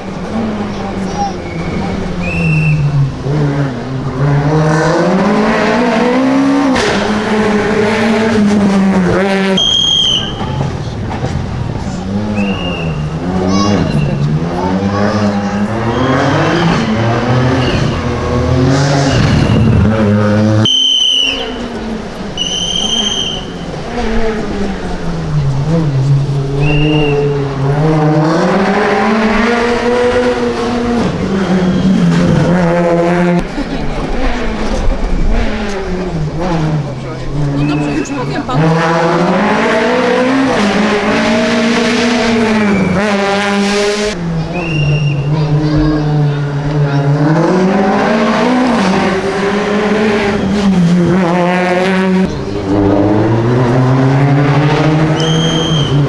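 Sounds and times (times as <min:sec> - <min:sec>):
rally car engine revving: 0:00.0 - 0:56.0
tyre and road noise: 0:00.0 - 0:56.0.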